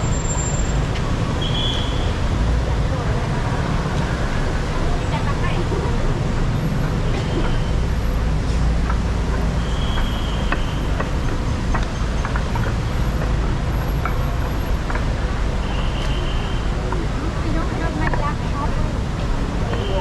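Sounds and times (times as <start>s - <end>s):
vehicle low rumble: 2.0s - 20.0s.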